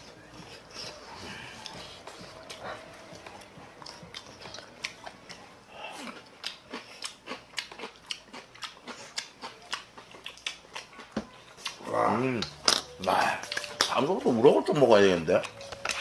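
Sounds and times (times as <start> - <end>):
chewing and lip-smacks: 0.0 - 12.8, 13.4 - 13.9, 15.4 - 16.0.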